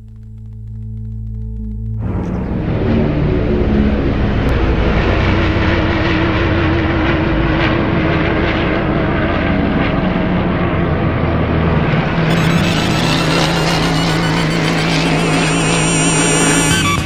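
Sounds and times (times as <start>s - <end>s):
aircraft engines droning overhead: 1.8s - 17.0s.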